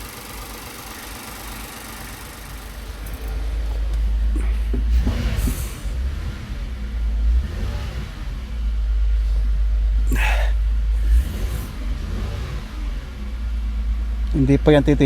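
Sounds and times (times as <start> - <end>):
car engine misfiring: 0.0 - 15.0.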